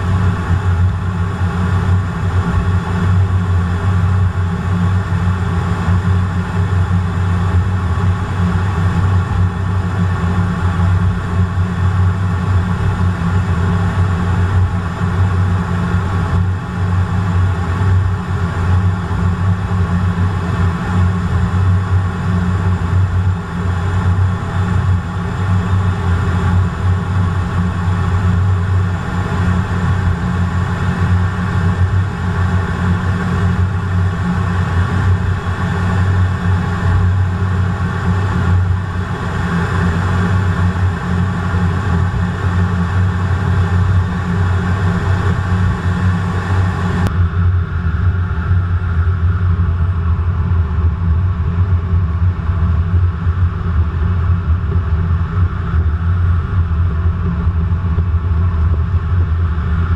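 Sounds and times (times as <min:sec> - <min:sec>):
jet cockpit rumble: 0:00.0 - 0:59.9.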